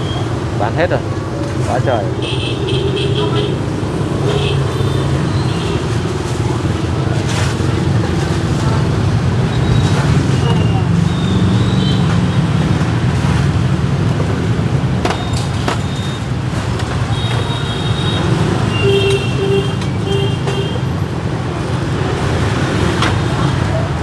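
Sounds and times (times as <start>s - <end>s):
motorbikes and cars passing: 0.0s - 24.0s.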